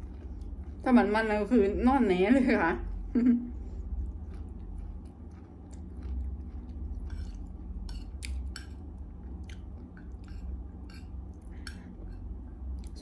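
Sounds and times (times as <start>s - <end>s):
person chewing food: 0.0s - 0.8s, 2.9s - 13.0s.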